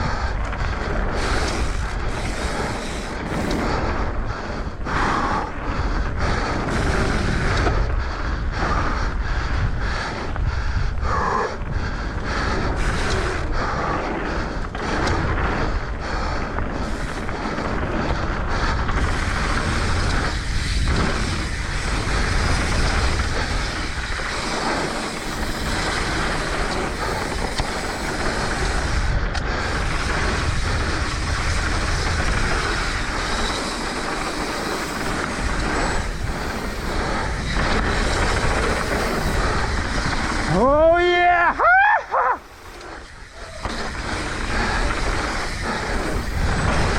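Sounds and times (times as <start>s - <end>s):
tyres rolling on dirt: 0.0s - 8.9s, 11.5s - 46.9s
bike rattling: 0.0s - 46.9s
wind rushing over microphone: 0.0s - 46.9s.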